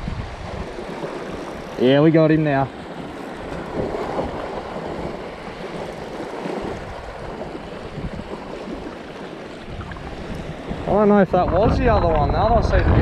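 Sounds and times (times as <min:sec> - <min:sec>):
sea washing against rocks: 0:00.0 - 0:13.0
wind buffeting microphone: 0:00.0 - 0:13.0.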